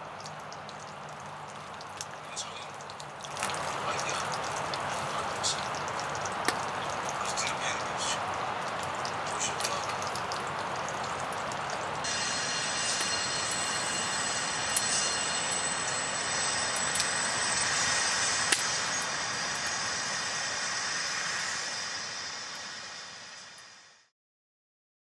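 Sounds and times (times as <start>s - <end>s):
wood fire crackling: 3.1s - 23.6s
bright hiss with high tones: 3.4s - 24.1s.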